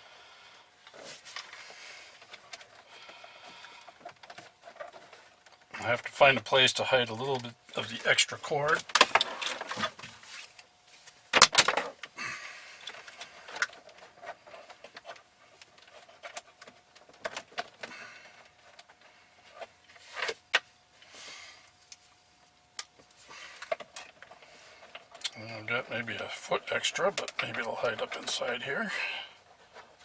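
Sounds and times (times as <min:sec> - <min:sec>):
cord rustling and scraping on plastic: 0:00.8 - 0:05.7, 0:08.1 - 0:12.1, 0:12.8 - 0:22.2, 0:22.9 - 0:30.0.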